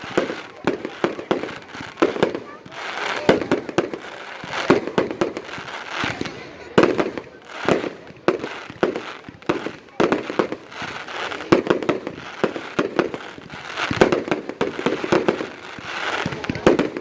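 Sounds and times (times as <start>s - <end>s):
fireworks crackling and hiss: 0.0s - 17.0s.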